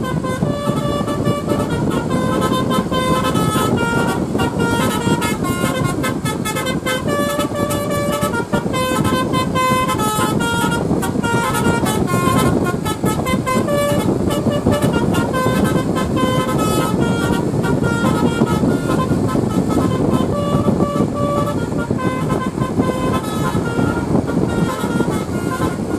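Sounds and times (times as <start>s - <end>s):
bus horn playing melody: 0.0s - 25.9s.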